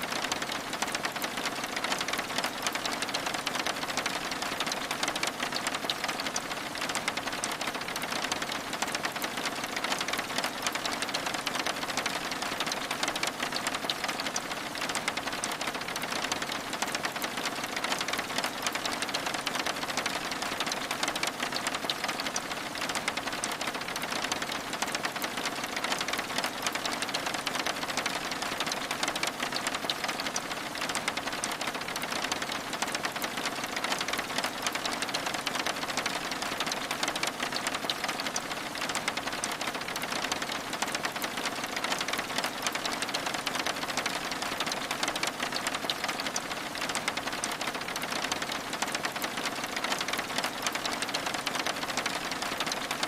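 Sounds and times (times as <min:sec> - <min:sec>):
rain pattering on window glass: 0:00.0 - 0:53.0.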